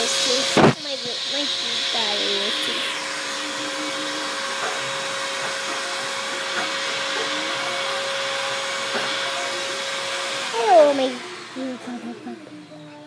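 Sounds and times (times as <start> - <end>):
machine whirring with hum: 0.0 - 13.0.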